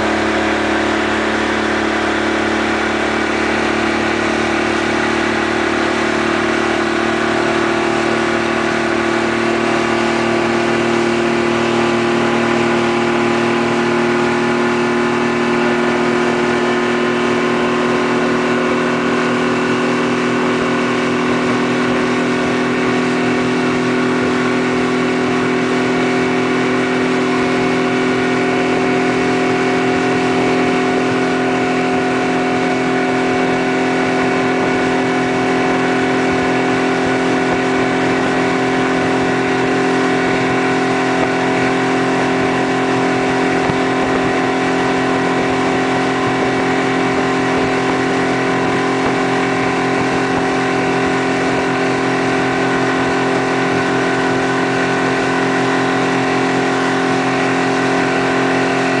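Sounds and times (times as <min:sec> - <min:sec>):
motorboat engine humming: 0:00.0 - 0:59.0
wake water rushing: 0:00.0 - 0:59.0.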